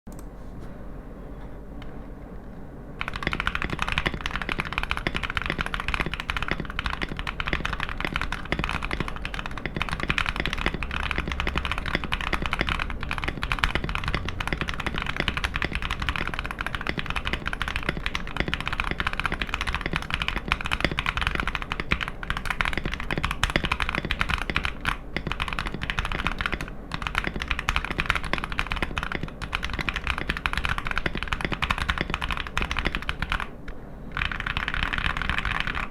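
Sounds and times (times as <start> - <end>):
fast typing on mechanical keyboard: 3.0 - 35.9.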